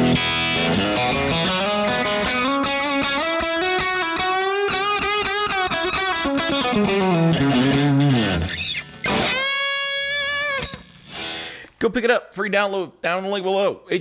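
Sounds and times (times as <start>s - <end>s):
distorted electric guitar: 0.0s - 11.7s.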